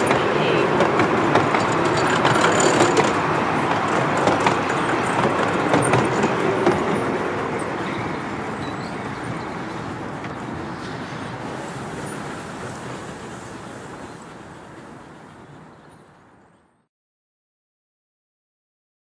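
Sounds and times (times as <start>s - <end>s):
train wheels clattering on track: 0.0s - 16.1s.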